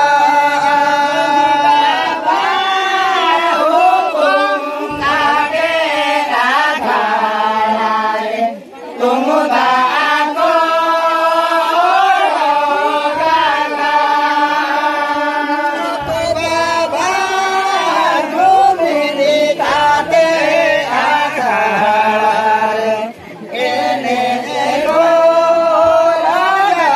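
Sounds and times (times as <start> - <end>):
men singing in unison: 0.0 - 26.9.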